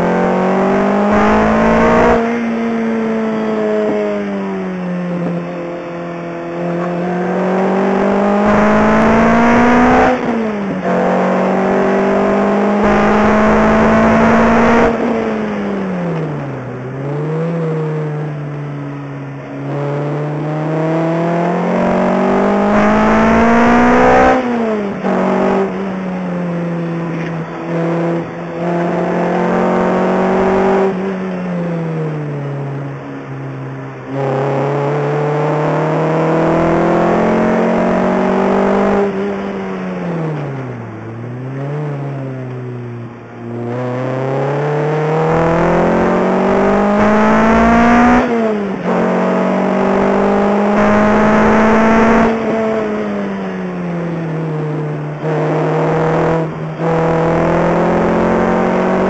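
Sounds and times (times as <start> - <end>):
car engine revving inside cabin: 0.0 - 59.0.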